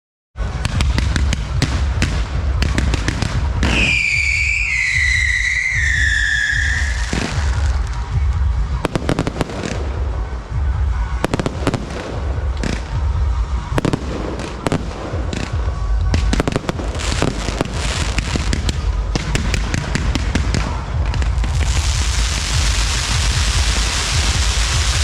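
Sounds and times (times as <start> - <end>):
fireworks cracking and banging: 0.4 - 25.0
music: 0.4 - 25.0.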